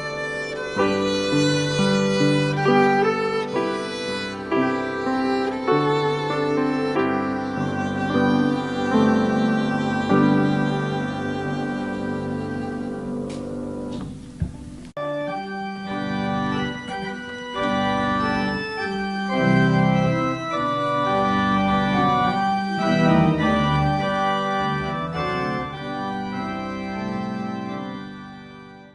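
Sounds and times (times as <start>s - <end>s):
organ playing sustained chords: 0.0s - 28.9s.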